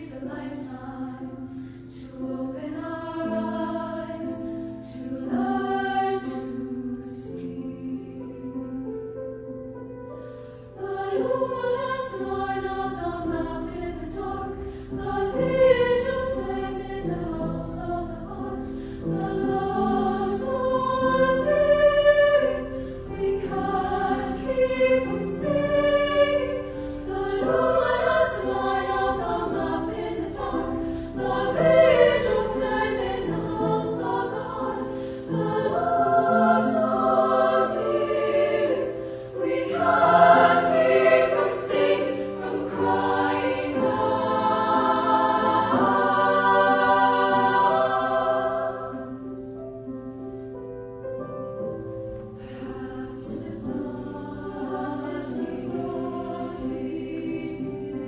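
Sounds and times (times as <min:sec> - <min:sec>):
women's choir singing: 0:00.0 - 0:09.6, 0:10.4 - 0:50.5, 0:51.5 - 0:58.0.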